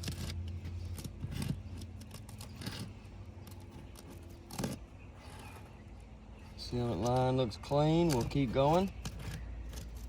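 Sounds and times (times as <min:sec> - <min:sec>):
roof snake scraping shingles: 0:00.0 - 0:10.0.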